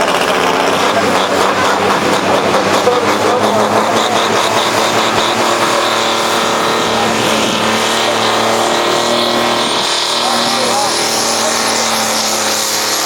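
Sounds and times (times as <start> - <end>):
tractor engine under full load: 0.0 - 13.0.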